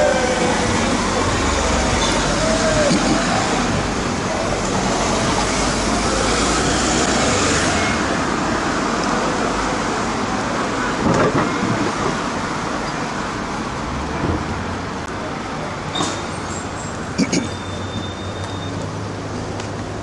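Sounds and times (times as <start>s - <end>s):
cars driving past: 0.0s - 20.0s.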